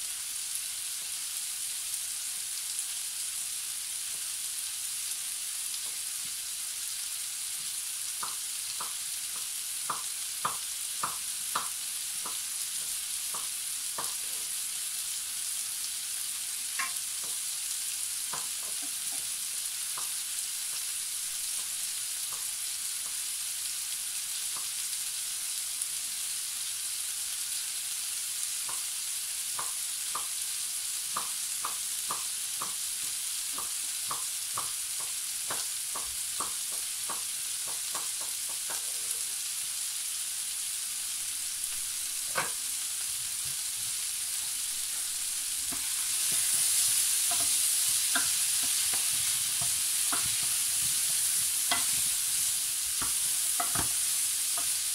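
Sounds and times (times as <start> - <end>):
vegetables sizzling in a pan: 0.0 - 54.9.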